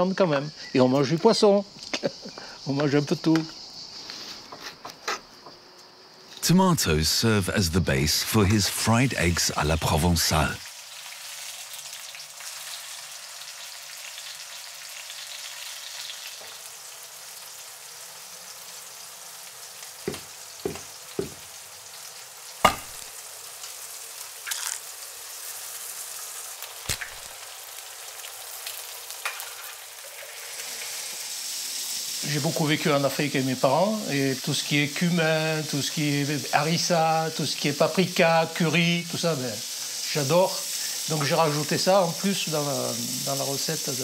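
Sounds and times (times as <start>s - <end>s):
food sizzling in a frying pan: 7.2s - 44.0s.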